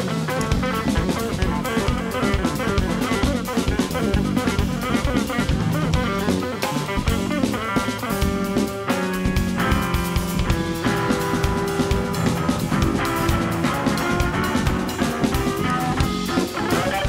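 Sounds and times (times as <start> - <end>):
drum kit with cymbals: 0.0 - 17.0
electric bass: 0.0 - 17.0
electric guitar melodic lines: 0.0 - 17.0.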